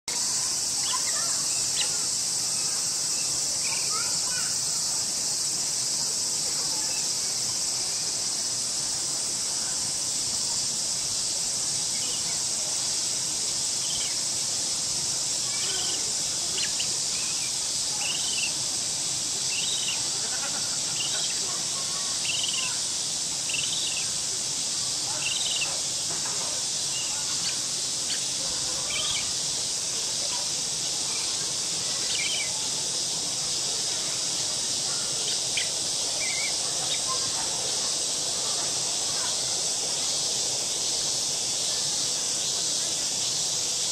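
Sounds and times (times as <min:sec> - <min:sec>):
high insect drone: 0:00.1 - 0:43.9.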